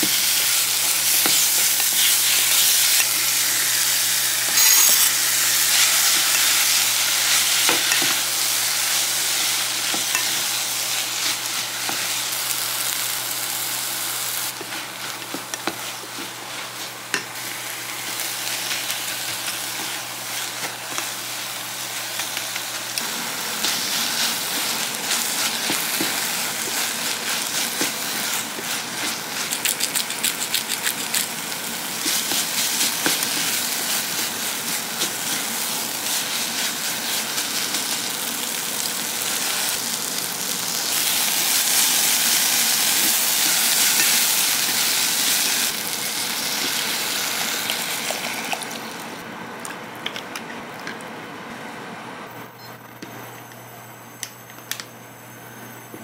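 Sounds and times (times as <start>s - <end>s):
vegetables sizzling in a pot: 0.0s - 49.2s.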